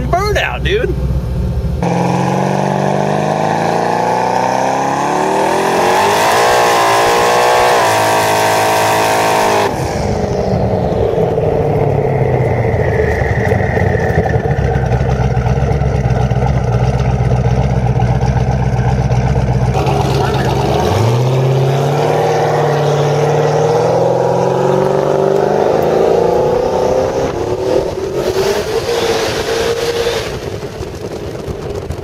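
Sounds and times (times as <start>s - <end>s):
low steady engine drone: 0.0s - 4.4s, 6.9s - 32.0s
car engine revving: 0.9s - 32.0s.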